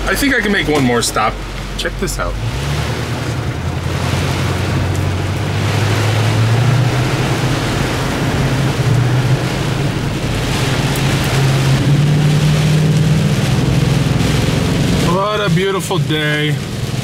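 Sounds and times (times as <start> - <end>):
car engine hum: 0.0 - 17.0
heavy rain on car windshield: 0.0 - 17.0.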